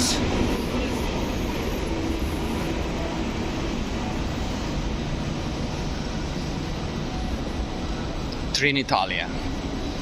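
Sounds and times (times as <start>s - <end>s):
trains rumbling and hissing: 0.0s - 10.0s.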